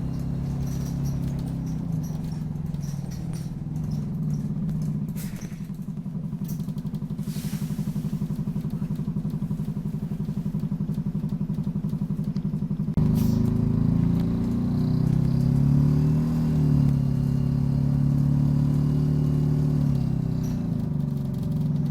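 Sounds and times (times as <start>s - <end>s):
bus diesel engine idling: 0.0s - 21.9s.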